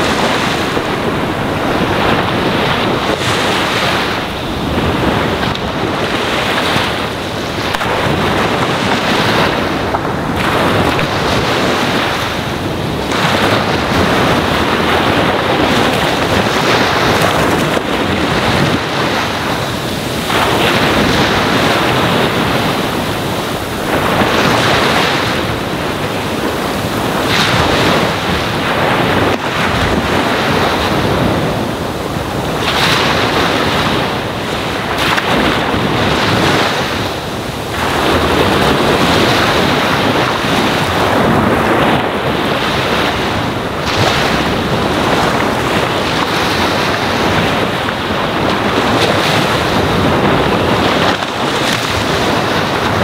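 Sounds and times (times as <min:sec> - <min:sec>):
ocean waves on shore: 0:00.0 - 0:53.0.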